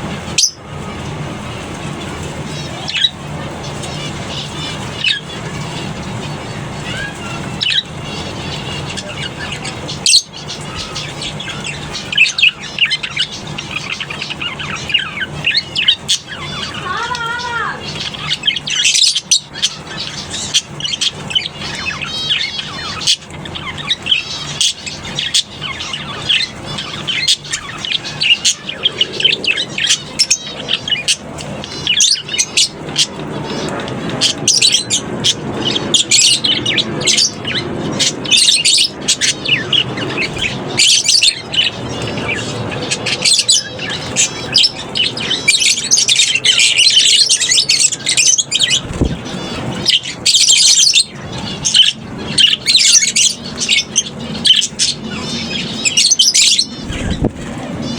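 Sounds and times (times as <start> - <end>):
lovebirds chirping and squawking: 0.0 - 57.9.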